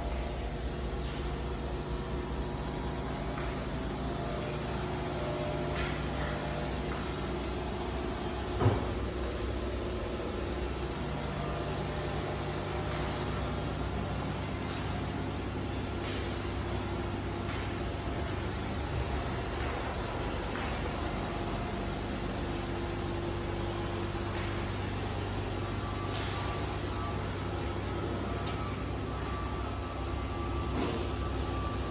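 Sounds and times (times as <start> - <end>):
machinery hum and hiss: 0.0 - 31.9.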